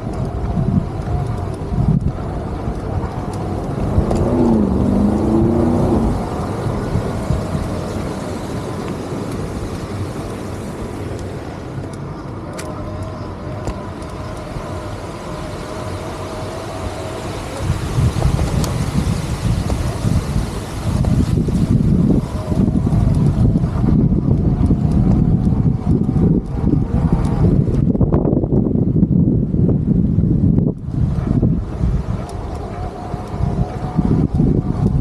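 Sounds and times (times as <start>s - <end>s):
city traffic rumble: 0.0s - 35.0s
faint steady whine: 0.0s - 35.0s.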